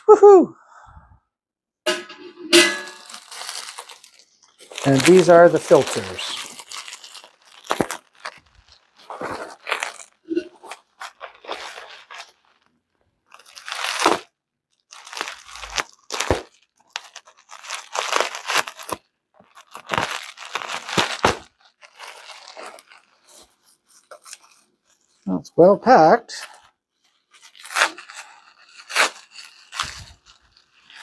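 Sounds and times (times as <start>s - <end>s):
bubble wrap crinkling: 2.5s - 25.3s, 26.3s - 31.0s.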